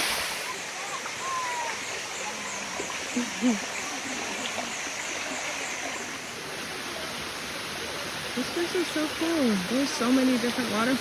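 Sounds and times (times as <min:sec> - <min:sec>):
waterfall running over rocks: 0:00.0 - 0:11.0.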